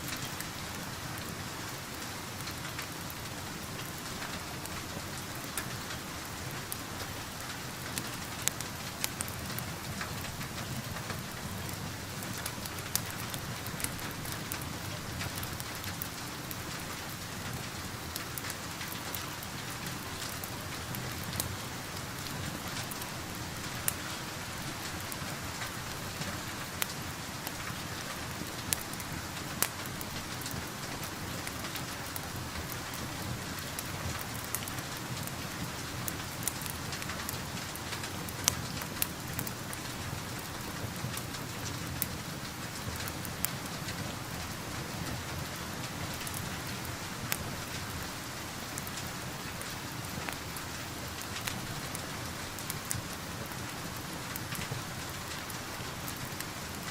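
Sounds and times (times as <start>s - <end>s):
steady rain hissing: 0.0s - 56.9s
wood fire crackling and popping: 0.1s - 56.9s.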